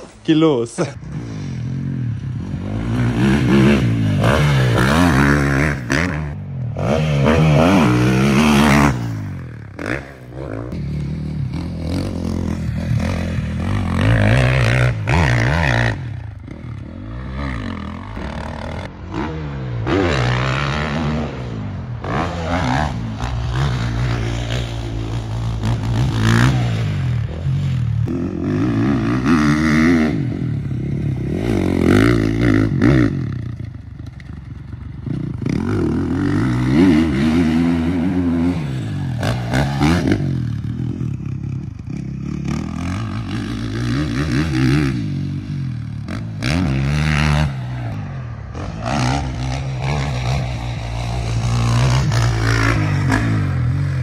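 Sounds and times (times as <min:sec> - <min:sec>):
motocross bike engine revving: 0:00.8 - 0:54.0.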